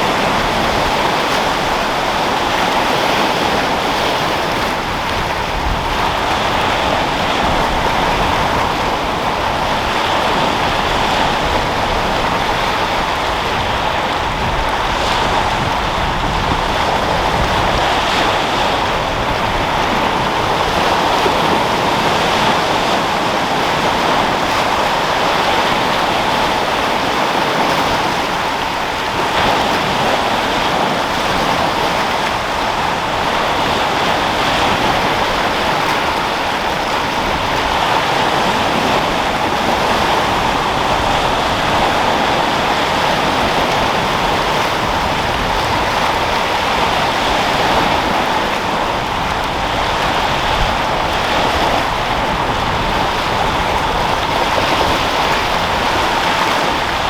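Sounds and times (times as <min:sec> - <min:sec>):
sea waves breaking: 0:00.0 - 0:57.0
wind: 0:00.0 - 0:57.0.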